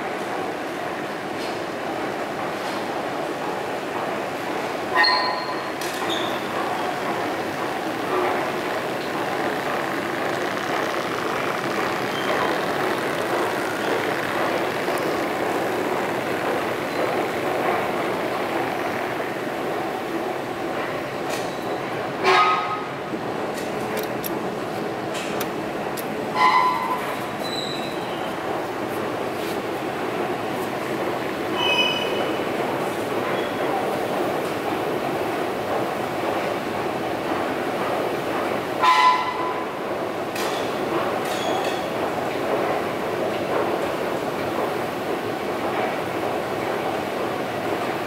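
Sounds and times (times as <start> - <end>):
subway station rushing noise: 0.0 - 48.0.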